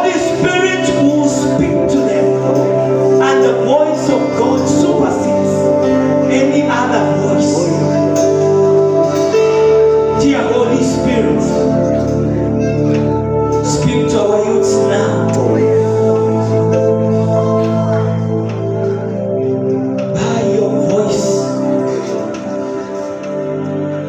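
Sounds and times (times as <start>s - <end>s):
gospel singing: 0.0s - 24.0s
sustained chords: 0.0s - 24.0s.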